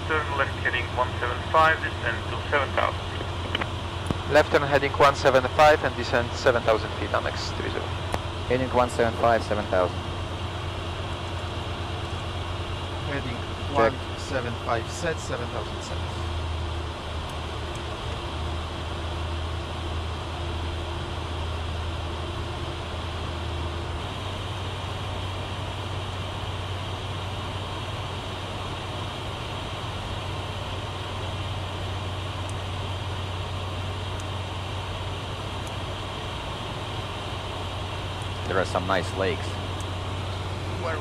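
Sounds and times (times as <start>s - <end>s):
jet engines humming: 0.0s - 41.0s.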